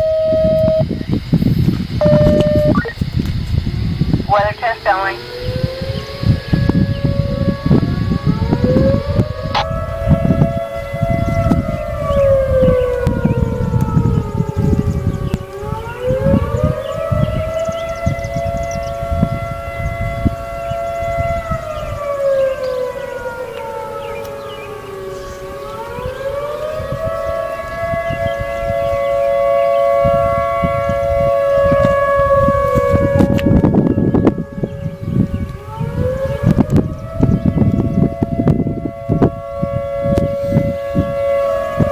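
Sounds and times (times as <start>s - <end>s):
tornado siren wailing: 0.0s - 41.9s.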